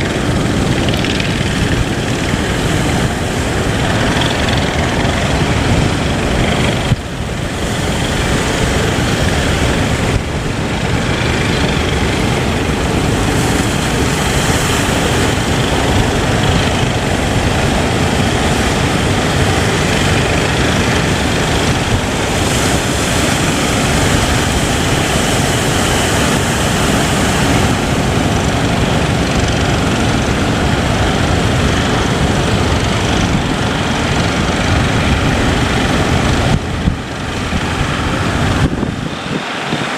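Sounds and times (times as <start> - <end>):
boat engine running: 0.0 - 39.9
rushing wind: 0.0 - 39.9
water noise: 0.0 - 39.9.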